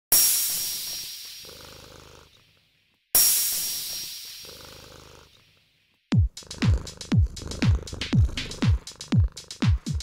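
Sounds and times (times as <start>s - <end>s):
cat purring: 0.8s - 3.0s, 3.6s - 10.0s.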